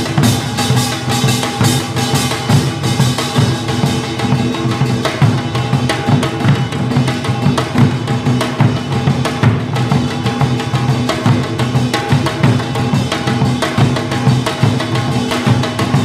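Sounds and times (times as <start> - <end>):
drums beaten fast: 0.0 - 16.0.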